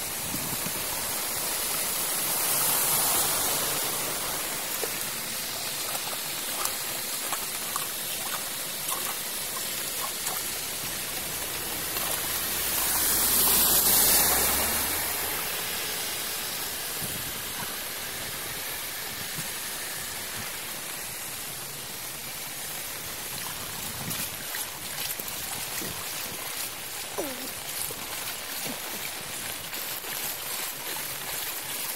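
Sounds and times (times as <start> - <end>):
floodwater rushing into culvert: 0.0 - 31.9
rain: 0.0 - 31.9.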